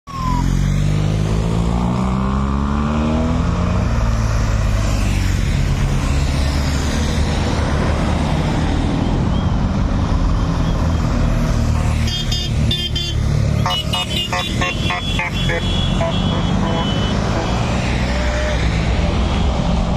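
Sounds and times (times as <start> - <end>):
vehicles passing on road: 0.1 - 19.9.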